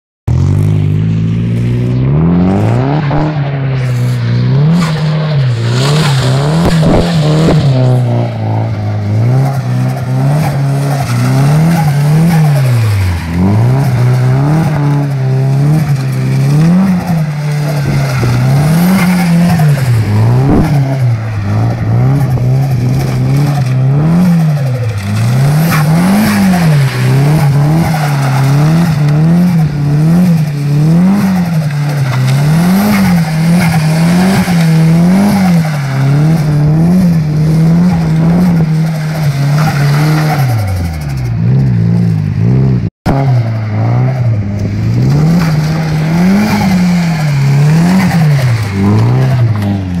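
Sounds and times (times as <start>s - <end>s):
car engine revving: 0.3s - 50.0s.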